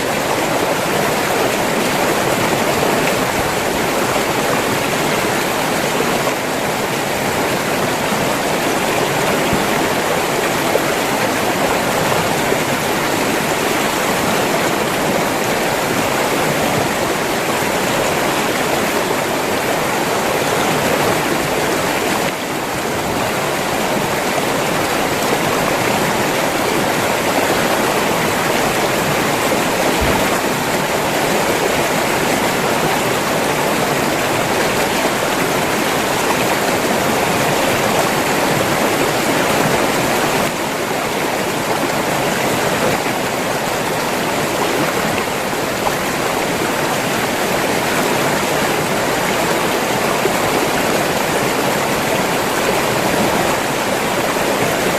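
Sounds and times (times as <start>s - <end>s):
river water flowing: 0.0s - 54.9s.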